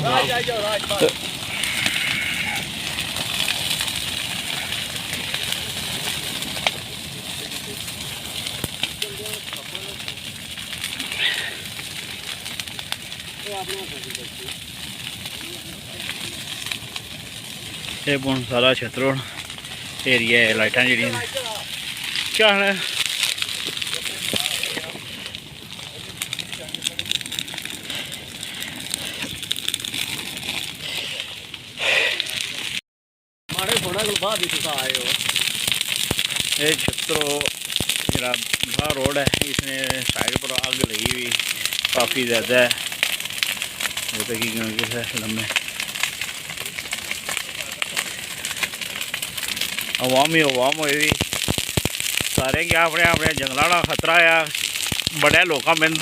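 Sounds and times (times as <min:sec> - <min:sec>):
wildfire crackling and popping: 0:00.0 - 0:32.8, 0:33.5 - 0:56.0.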